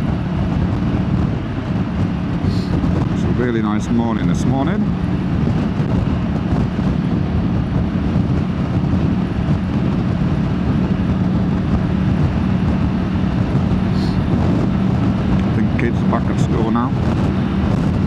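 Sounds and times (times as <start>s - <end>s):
motorbike engine cruising: 0.0s - 18.0s
wind and road noise: 0.0s - 18.0s.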